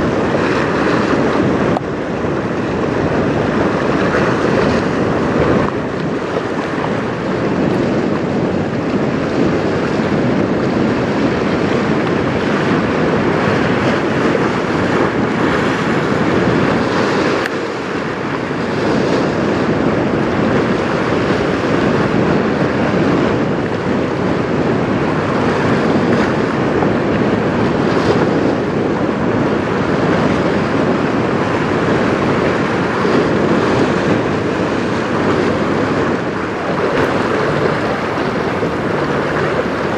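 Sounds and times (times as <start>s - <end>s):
choppy river water: 0.0s - 39.9s
wind buffeting microphone: 0.0s - 39.9s
wind rushing: 0.0s - 39.9s.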